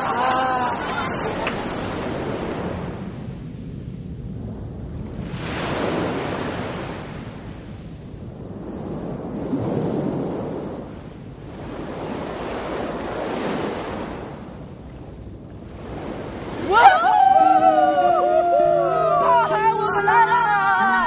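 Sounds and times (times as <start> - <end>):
surf breaking on beach: 0.0 - 3.7, 4.3 - 21.0.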